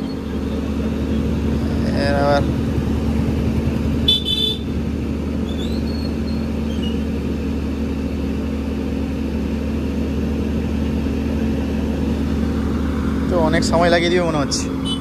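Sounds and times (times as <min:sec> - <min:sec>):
large vehicle engine idling: 0:00.0 - 0:15.0.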